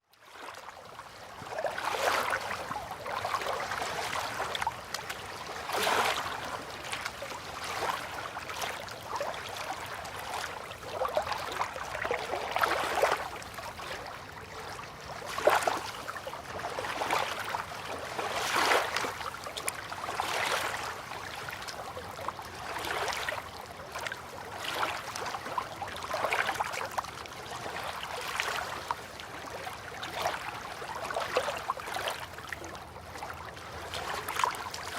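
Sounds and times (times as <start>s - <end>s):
river water lapping at shore: 0.1s - 34.9s.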